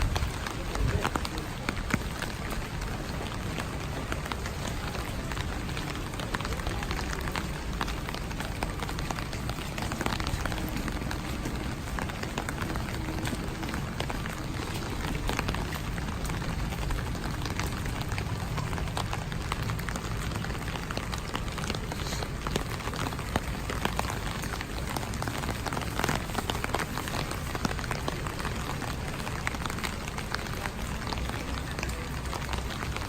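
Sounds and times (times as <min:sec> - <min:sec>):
rain drops pattering: 0:00.0 - 0:33.0.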